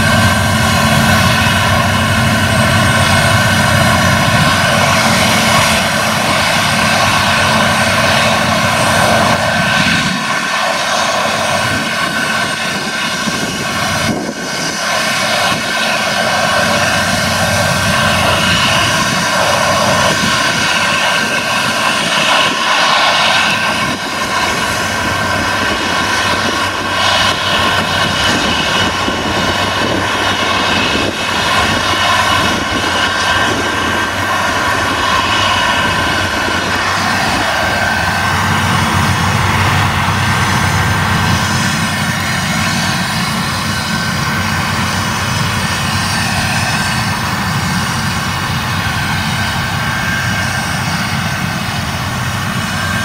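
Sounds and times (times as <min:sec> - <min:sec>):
combine harvester engine drone: 0:00.0 - 0:53.0
high whine: 0:00.0 - 0:53.0.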